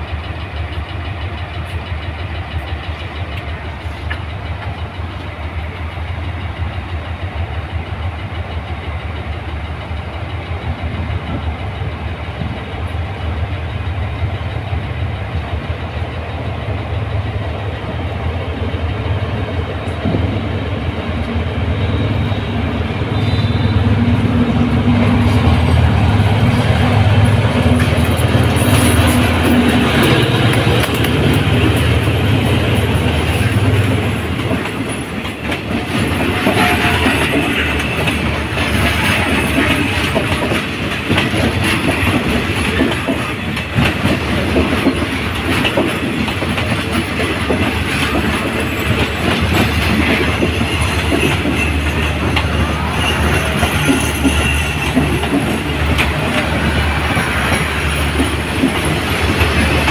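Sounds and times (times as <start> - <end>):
locomotive engine humming: 0.0 - 59.9
train wheels on rails: 0.0 - 59.9
wheels clacking over rail joints: 0.0 - 59.9.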